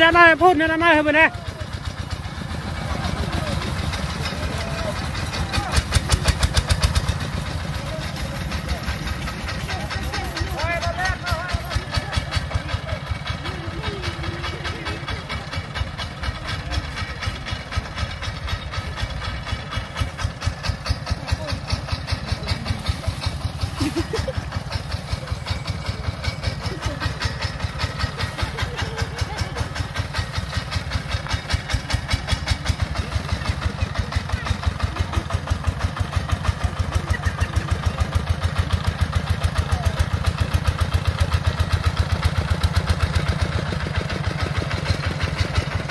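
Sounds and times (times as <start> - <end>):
diesel engine thumping: 0.0 - 45.9.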